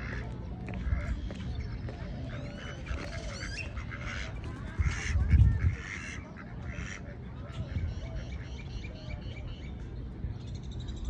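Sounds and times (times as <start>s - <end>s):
ducks and birds calling: 0.0s - 11.0s
low rumble on microphone: 0.0s - 11.0s.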